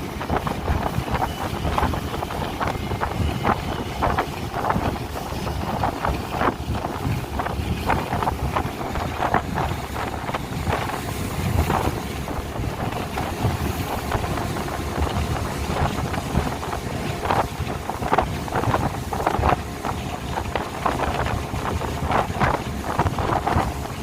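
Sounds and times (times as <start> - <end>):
speedboat engine: 0.0 - 24.0
water rushing: 0.0 - 24.0
wind buffeting microphone: 0.0 - 24.0
thuds and splashes: 0.2 - 24.0.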